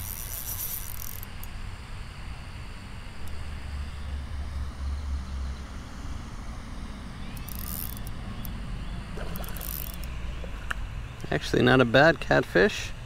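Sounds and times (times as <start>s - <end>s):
low outdoor rumble: 1.0s - 13.0s.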